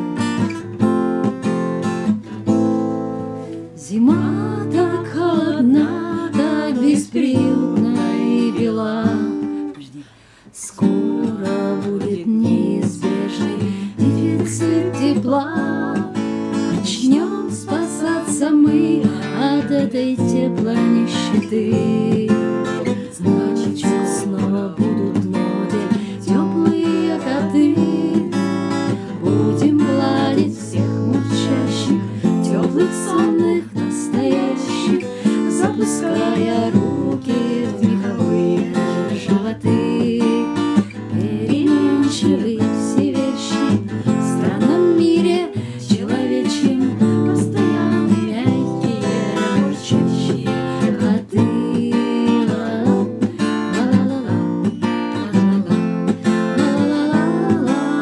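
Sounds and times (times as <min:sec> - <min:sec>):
acoustic guitar strumming: 0:00.0 - 0:58.0
woman singing: 0:03.6 - 0:58.0.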